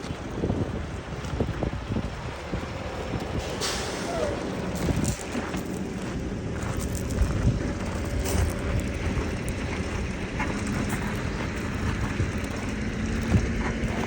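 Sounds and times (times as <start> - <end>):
construction vehicle engine rumbling: 0.0 - 14.0.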